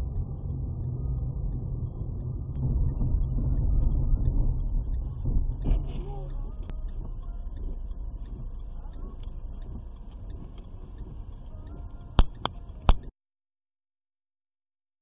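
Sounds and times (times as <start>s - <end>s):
car engine and road rumble: 0.0s - 13.1s.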